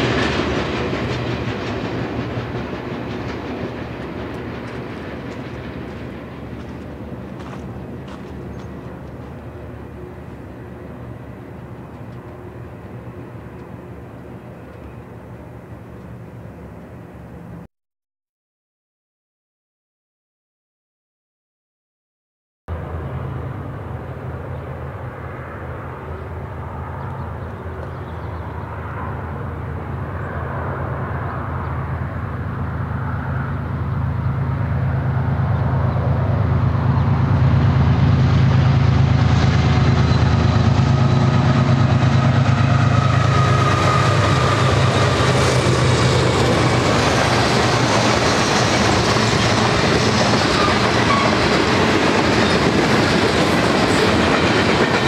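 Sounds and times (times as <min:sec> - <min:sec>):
diesel locomotive engine drone: 0:00.0 - 0:17.7, 0:22.7 - 0:55.0.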